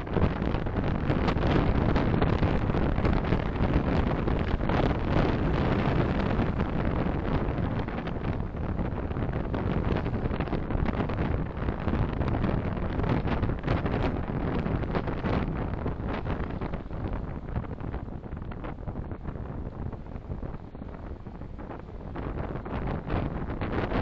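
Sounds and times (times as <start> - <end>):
car road and wind noise: 0.0 - 24.0.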